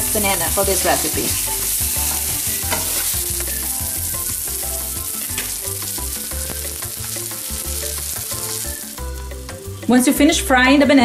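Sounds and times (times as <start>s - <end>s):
butter sizzling in a frying pan: 0.0s - 9.9s.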